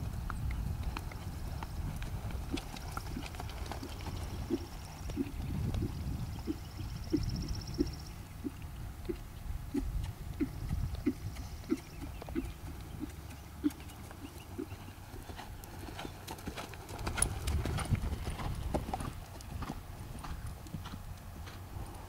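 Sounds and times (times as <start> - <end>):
horse hoofbeats on grass: 0.0 - 22.0.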